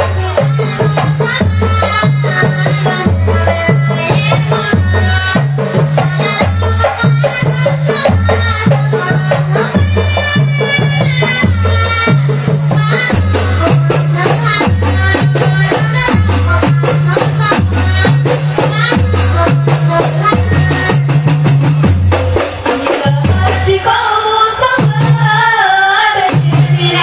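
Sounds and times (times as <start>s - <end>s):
voices singing: 0.0s - 21.8s, 22.4s - 27.0s
frame drums with jingles: 0.0s - 27.0s.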